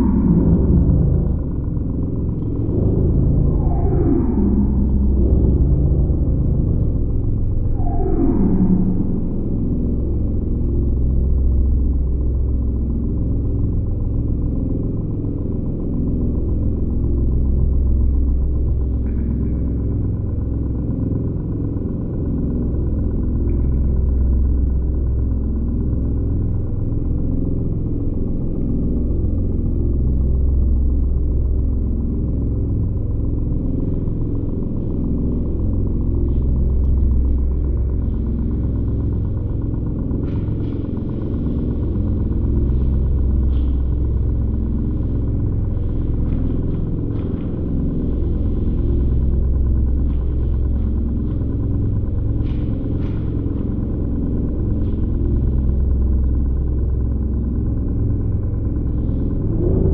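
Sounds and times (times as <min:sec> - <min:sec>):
deep rumbling drone: 0:00.0 - 0:59.9.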